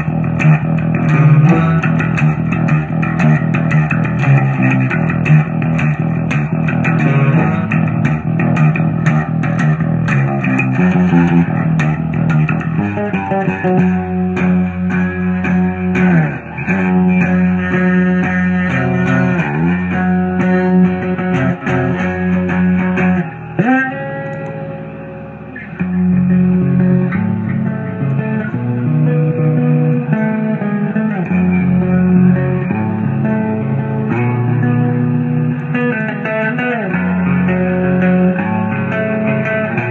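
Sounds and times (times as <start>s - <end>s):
bass guitar: 0.0s - 39.9s
electric guitar playing: 0.0s - 39.9s.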